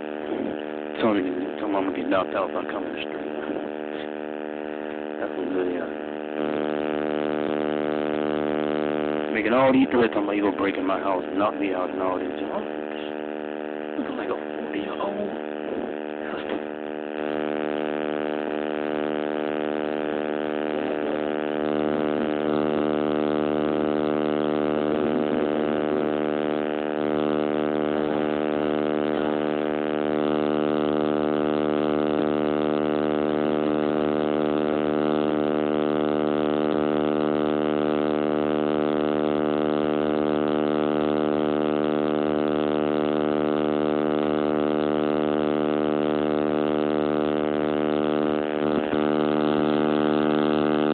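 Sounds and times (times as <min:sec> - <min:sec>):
electrical buzzing drone: 0:00.0 - 0:50.9.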